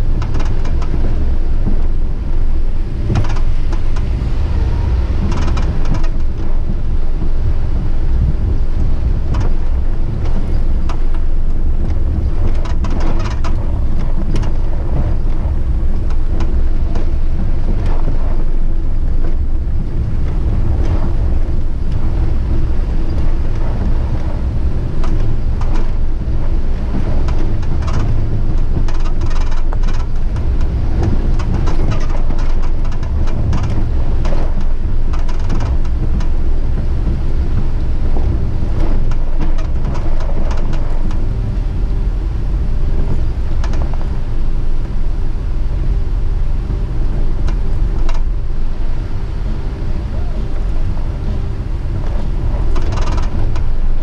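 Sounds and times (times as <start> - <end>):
knocks and rattles: 0.0 - 41.4, 52.0 - 54.0
vehicle rumble: 0.0 - 54.0.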